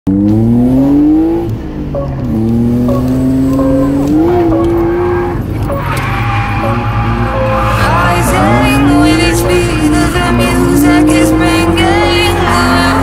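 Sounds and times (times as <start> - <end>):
car engine revving hard: 0.1 - 13.0.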